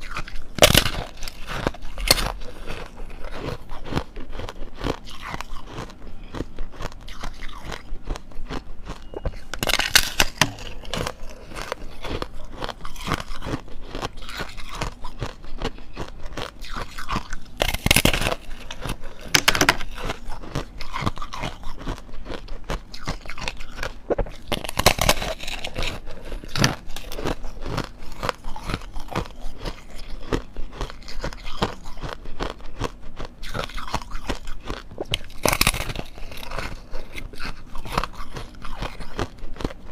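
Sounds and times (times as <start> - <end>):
person crunching ice: 0.0 - 39.8.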